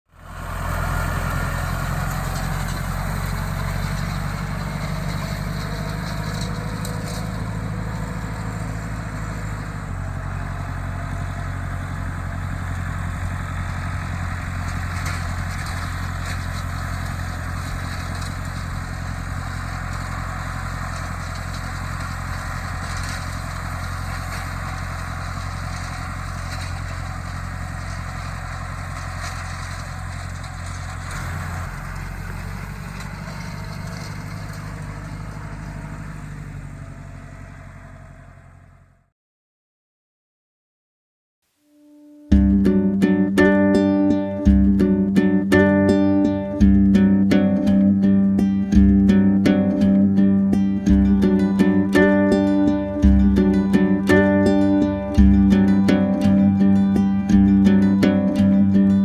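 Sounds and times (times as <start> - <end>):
tractor engine running: 0.1 - 39.0, 42.3 - 59.0.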